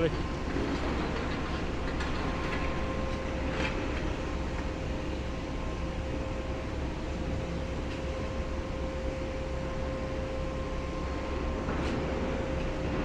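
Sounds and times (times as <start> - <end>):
distant demolition machinery engine drone: 0.0 - 13.0.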